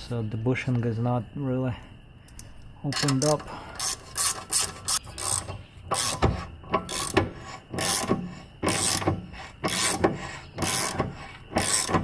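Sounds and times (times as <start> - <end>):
ratchet wrench clicking: 2.4 - 12.0.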